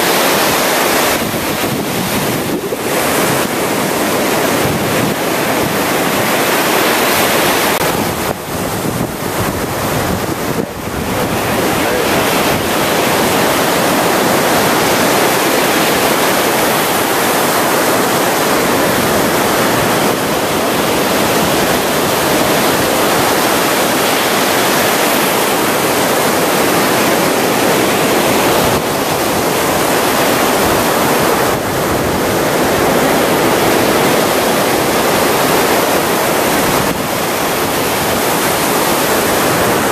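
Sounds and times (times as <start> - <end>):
surf breaking on a beach: 0.0 - 39.9.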